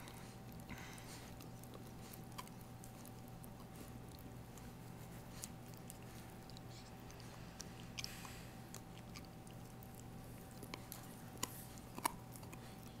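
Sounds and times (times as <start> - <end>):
puppy chewing rawhide: 0.0 - 13.0.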